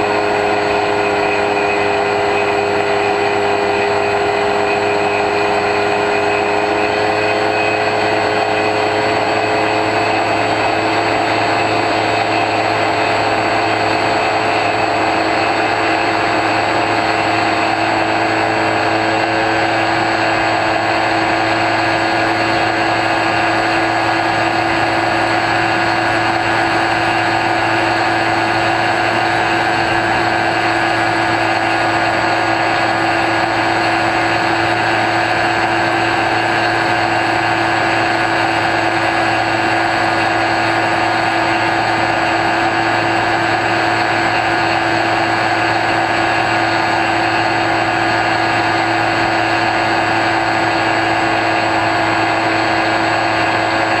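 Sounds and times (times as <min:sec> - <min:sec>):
electric motor propeller whine: 0:00.0 - 0:54.0.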